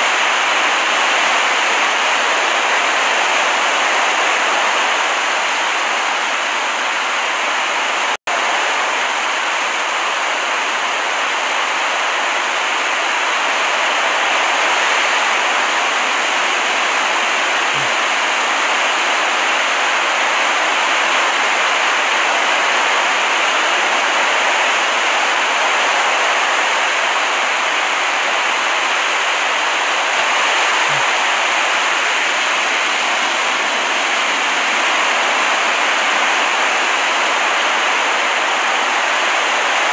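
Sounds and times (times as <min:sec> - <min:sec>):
ocean surf: 0:00.0 - 0:39.9.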